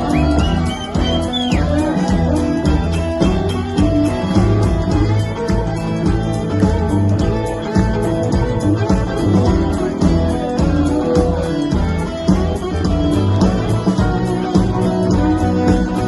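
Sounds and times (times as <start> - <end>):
bass guitar: 0.0 - 16.0
blues guitar: 0.0 - 16.0
steady drum beat: 0.0 - 16.0.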